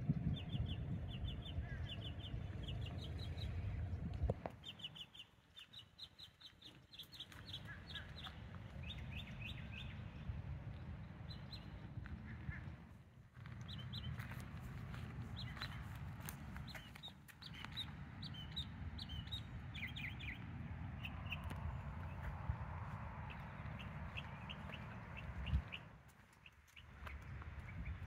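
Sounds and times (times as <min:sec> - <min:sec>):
low rumble: 0:00.0 - 0:04.9, 0:07.5 - 0:26.0
songbirds chirping: 0:00.0 - 0:28.0.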